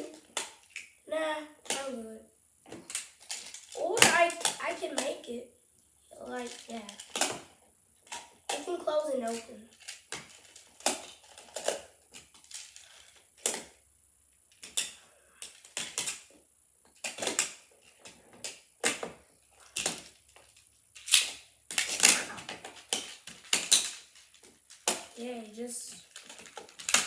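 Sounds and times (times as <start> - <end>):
plastic building blocks clicking: 0.0 - 0.9, 2.7 - 5.3, 6.3 - 13.8, 14.5 - 16.3, 17.0 - 25.2, 25.9 - 27.0.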